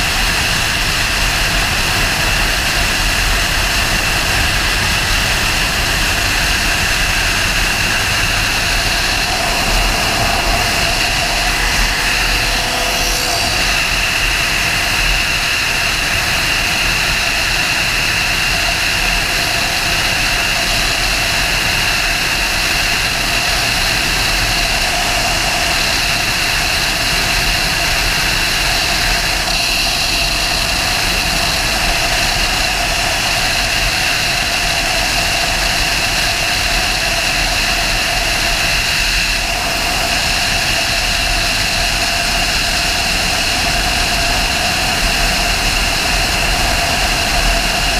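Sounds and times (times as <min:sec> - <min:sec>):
motorcycle engine cruising: 0:00.0 - 0:47.9
wind rushing on microphone: 0:00.0 - 0:47.9.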